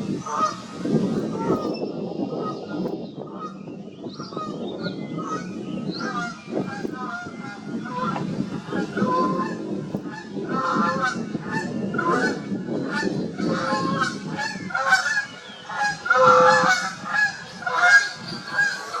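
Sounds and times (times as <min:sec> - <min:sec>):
geese honking: 0:00.1 - 0:01.6, 0:04.3 - 0:19.0.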